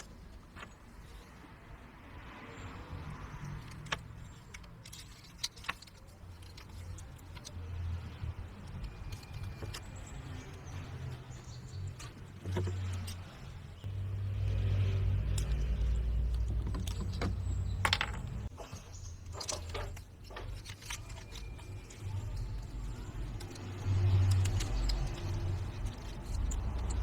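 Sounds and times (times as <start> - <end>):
clicks and knocks of parts: 2.9 - 13.7, 14.4 - 27.0.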